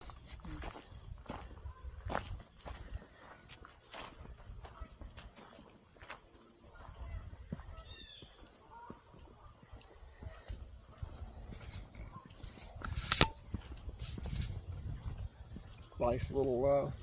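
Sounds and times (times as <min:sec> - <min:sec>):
insect chorus: 0:00.0 - 0:17.0
soft footsteps on a path: 0:00.0 - 0:17.0.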